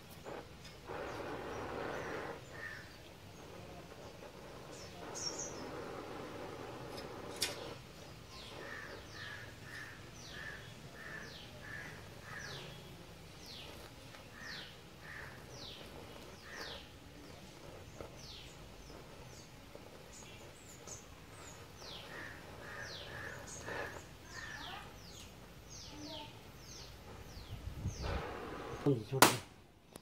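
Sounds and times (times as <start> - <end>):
small birds chirping: 0.0 - 29.2
faint steady hiss: 0.0 - 30.0.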